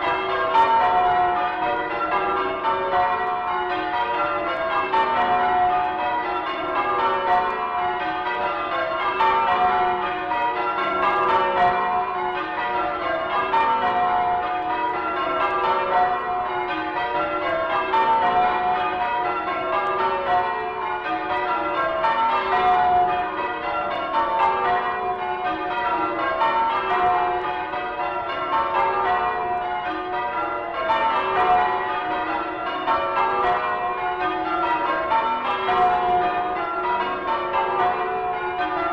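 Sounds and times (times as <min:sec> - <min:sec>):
church bells change-ringing: 0:00.0 - 0:38.9.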